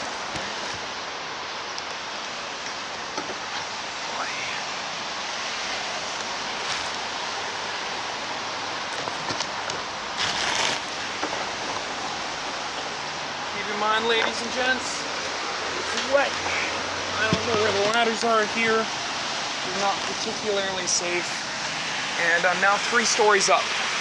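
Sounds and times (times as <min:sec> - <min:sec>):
rain hissing: 0:00.0 - 0:24.0
wet street noise: 0:00.0 - 0:24.0.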